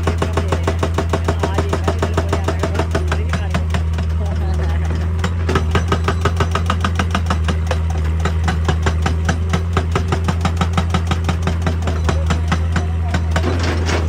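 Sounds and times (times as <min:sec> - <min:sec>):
diesel engine hum: 0:00.0 - 0:14.0
hydraulic breaker hammering rock: 0:00.0 - 0:14.0.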